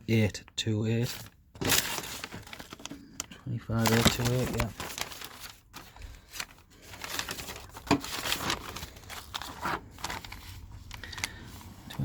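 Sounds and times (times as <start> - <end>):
rustling and handling noises: 0.2 - 12.0.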